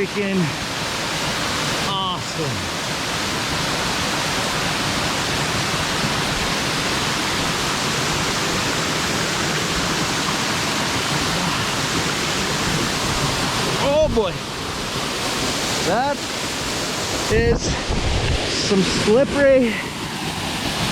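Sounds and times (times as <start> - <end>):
waterfall pouring: 0.0 - 17.6.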